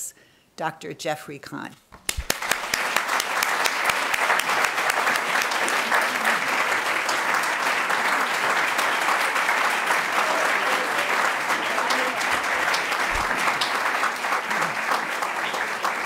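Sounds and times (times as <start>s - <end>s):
audience clapping: 2.0s - 16.0s.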